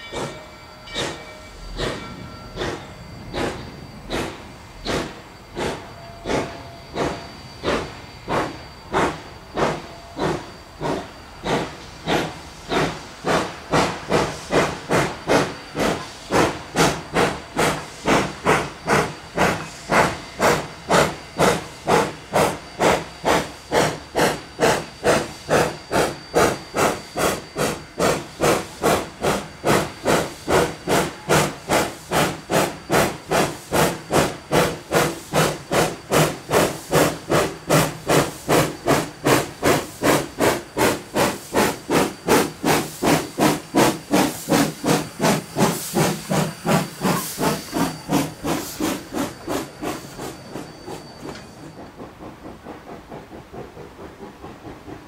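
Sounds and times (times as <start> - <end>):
steam locomotive exhaust chuffs: 0.0 - 55.0.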